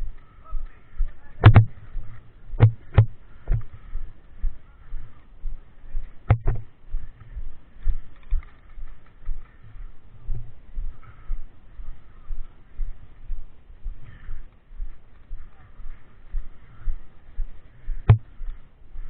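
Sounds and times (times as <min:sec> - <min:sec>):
walking footsteps: 0:00.0 - 0:19.0.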